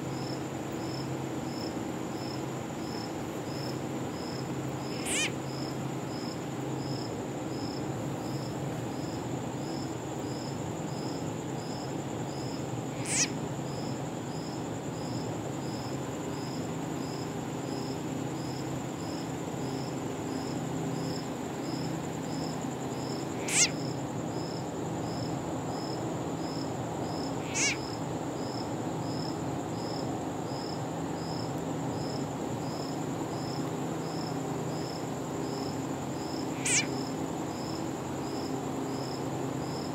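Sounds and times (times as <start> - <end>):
crickets trilling and chirping: 0.0 - 39.9.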